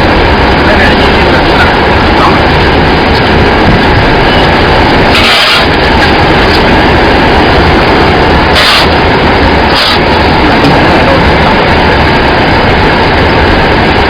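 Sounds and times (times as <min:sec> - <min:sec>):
loud machinery noise: 0:00.0 - 0:14.0
low rumble: 0:00.0 - 0:14.0.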